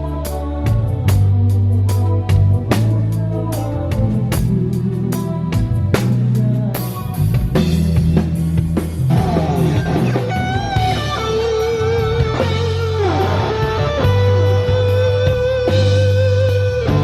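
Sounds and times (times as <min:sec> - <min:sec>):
bass guitar: 0:00.0 - 0:17.0
electric guitar lead: 0:00.0 - 0:17.0.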